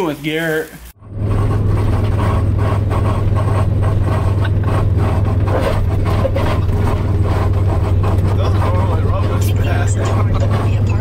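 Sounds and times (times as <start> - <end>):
car engine and road noise: 0.9 - 11.0.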